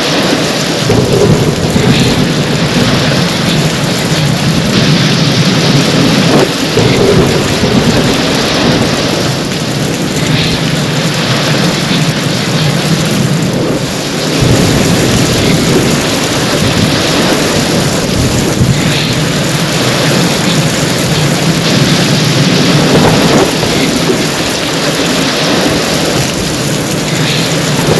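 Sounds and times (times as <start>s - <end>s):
heavy rain: 0.0s - 27.9s
thunder rumbling: 0.0s - 27.9s.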